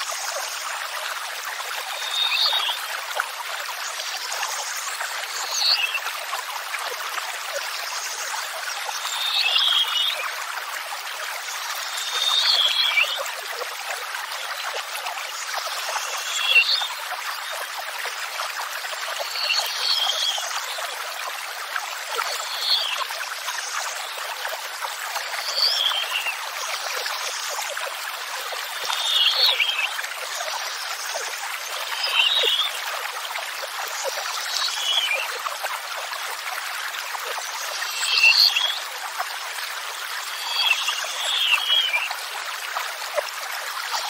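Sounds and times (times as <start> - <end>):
running water rushing: 0.0 - 44.0.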